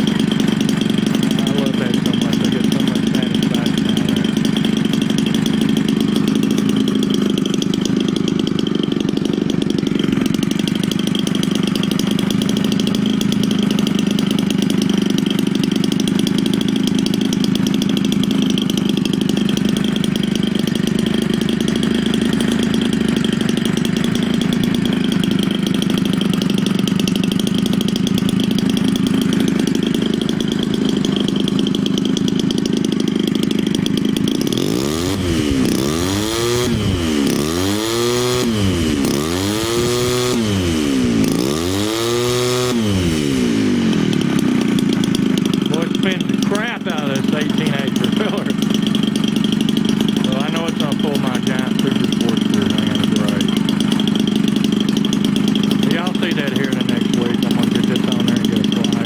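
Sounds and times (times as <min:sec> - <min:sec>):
two-stroke engine running: 0:00.0 - 0:59.0.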